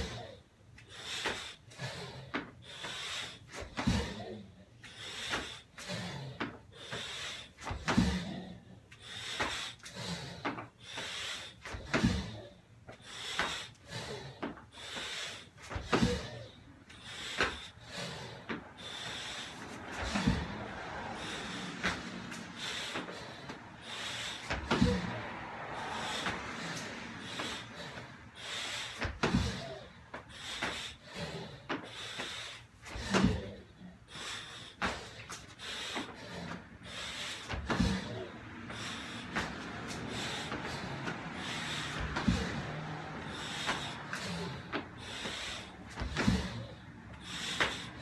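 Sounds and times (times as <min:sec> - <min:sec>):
person breathing hard: 0:00.0 - 0:48.0.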